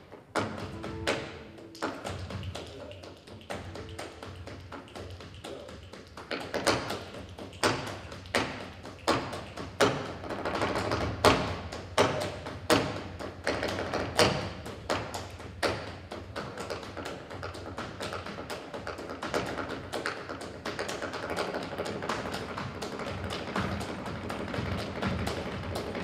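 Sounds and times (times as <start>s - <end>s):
shoes stamping on wooden stage: 0.1s - 26.0s.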